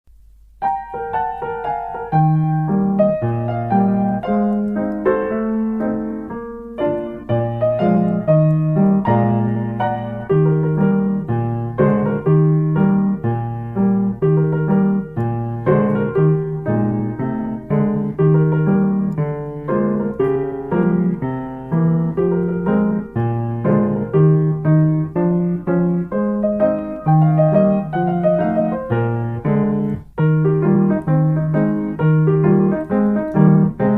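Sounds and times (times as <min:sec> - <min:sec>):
piano music: 0:00.2 - 0:33.9.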